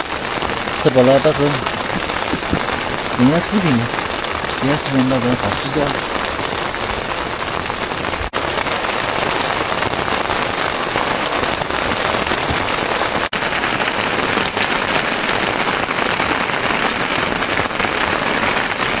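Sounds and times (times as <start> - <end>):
heavy rain on a tent: 0.0 - 19.0.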